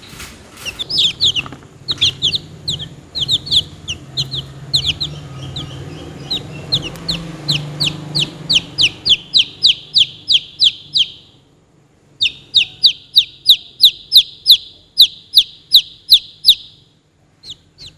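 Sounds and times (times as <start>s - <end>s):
baby chick peeping: 0.0s - 17.9s.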